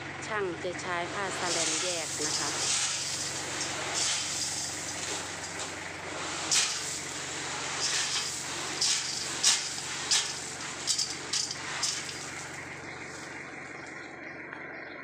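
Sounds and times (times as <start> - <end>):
truck engine humming: 0.0 - 14.4
stones pouring from truck bed: 1.0 - 13.4.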